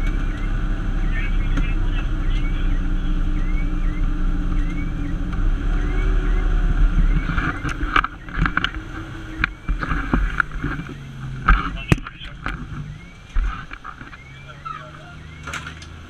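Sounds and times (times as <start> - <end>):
faint siren sweeping: 0.0 - 11.4, 12.7 - 15.8
diesel engine droning in cab: 0.0 - 16.0.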